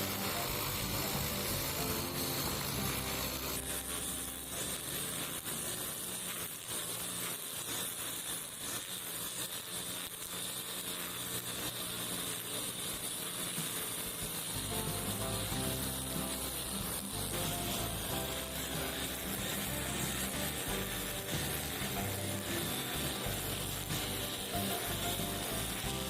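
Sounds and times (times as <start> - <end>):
brush cutter engine cutting grass: 0.0 - 26.0.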